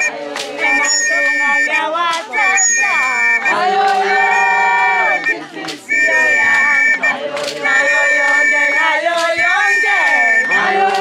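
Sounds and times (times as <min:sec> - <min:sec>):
women singing in unison: 0:00.0 - 0:11.0.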